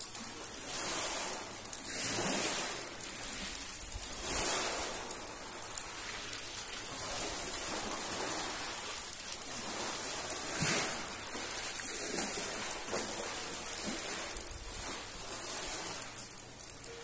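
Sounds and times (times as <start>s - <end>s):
light rain pattering: 0.0s - 17.0s
waves washing onto pebbles: 0.0s - 17.0s.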